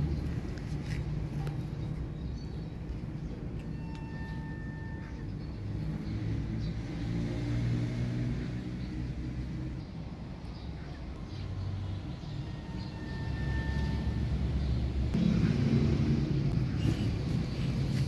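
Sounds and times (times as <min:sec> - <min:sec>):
passing motor engine rumble: 0:00.0 - 0:18.0.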